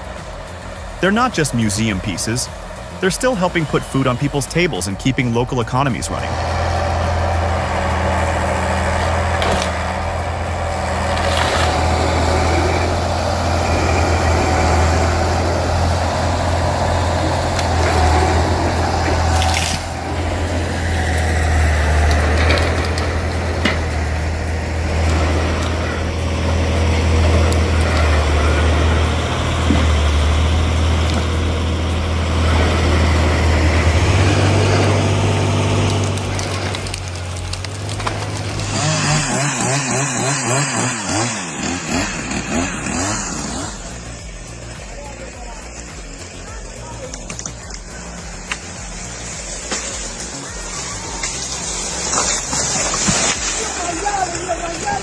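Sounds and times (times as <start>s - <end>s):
heavy machine engine under load: 0.0s - 55.0s.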